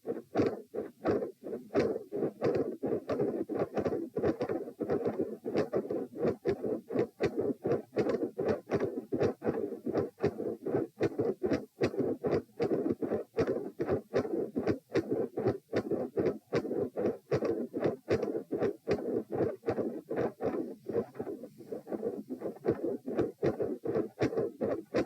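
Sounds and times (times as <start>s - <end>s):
heartbeats: 0.0s - 25.0s.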